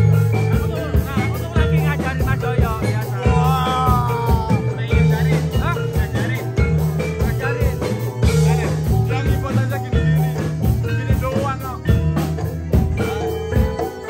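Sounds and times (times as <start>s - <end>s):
bending melody line: 0.0s - 14.0s
drum kit beat: 0.0s - 14.0s
electric bass notes: 0.0s - 14.0s
keyboard: 0.0s - 14.0s
live band playing: 0.0s - 14.0s.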